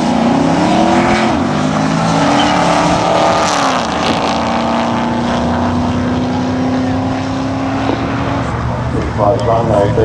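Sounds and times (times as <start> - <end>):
drag racing cars at full throttle: 0.0 - 10.0.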